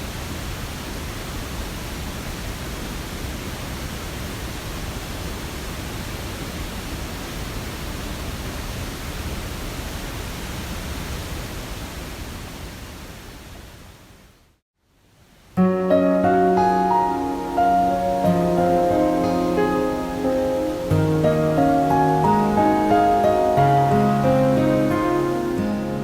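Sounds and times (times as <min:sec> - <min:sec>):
rushing water: 0:00.0 - 0:14.2, 0:15.1 - 0:26.0.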